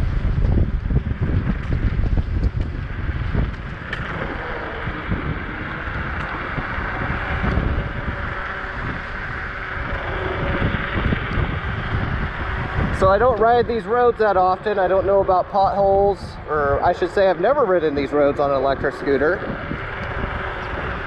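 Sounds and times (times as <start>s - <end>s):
tyre and road noise: 0.0s - 21.0s
wind buffeting microphone: 0.0s - 21.0s.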